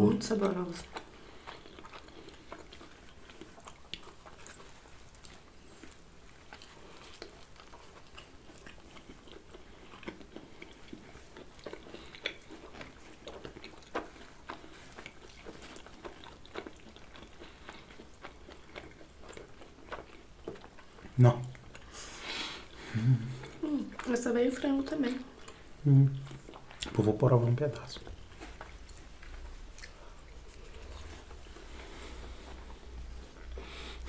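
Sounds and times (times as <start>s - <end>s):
people chewing pizza: 0.0s - 34.0s.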